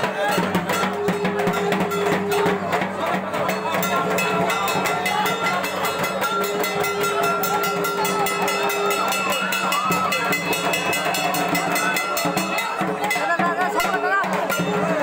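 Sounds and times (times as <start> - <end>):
crowd chatter: 0.0 - 15.0
fast rhythmic percussion: 0.0 - 15.0.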